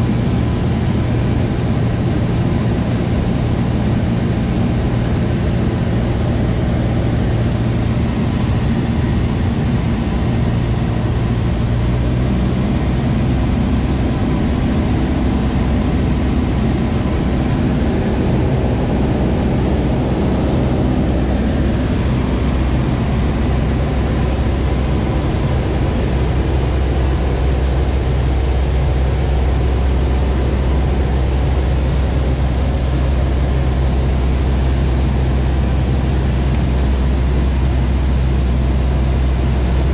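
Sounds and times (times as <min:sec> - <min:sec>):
airplane engine drone: 0:00.0 - 0:39.9.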